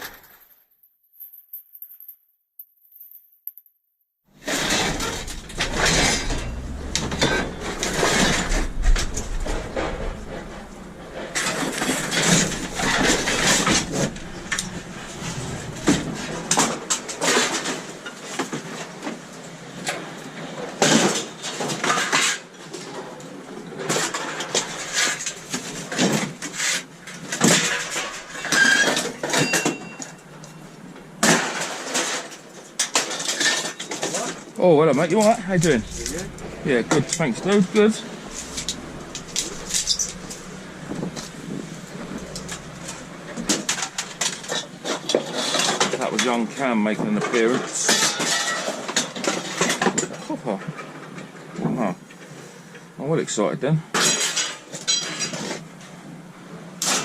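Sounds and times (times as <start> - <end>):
scrap metal clanking and rattling: 4.4 - 19.3, 20.8 - 50.2, 54.0 - 55.6.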